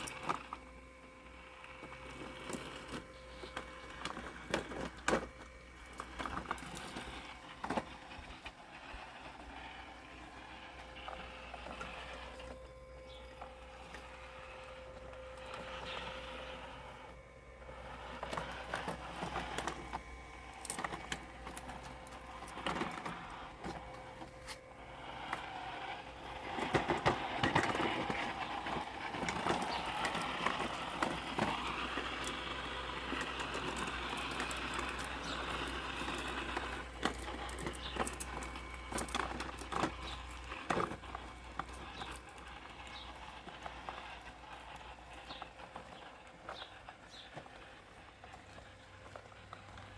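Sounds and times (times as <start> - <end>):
robotic lawn mower running: 0.0 - 49.9.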